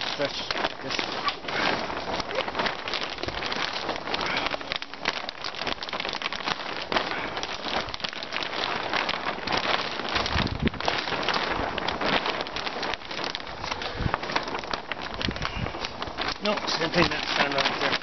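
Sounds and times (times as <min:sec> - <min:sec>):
plastic sheet crinkling and rustling: 0:00.0 - 0:18.0.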